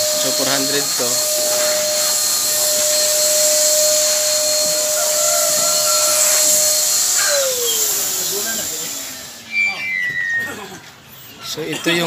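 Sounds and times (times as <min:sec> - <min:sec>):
small electric motor running: 0:00.0 - 0:11.0.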